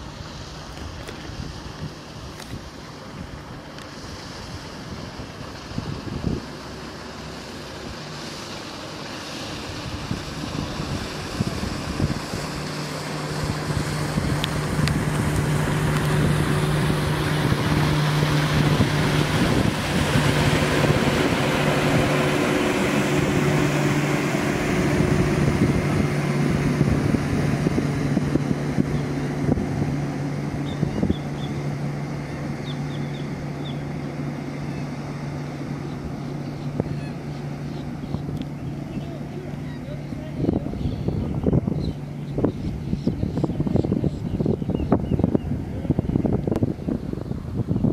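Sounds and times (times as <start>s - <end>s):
wind on microphone: 0.0s - 6.9s, 9.4s - 47.9s
motor engine humming: 0.0s - 47.9s.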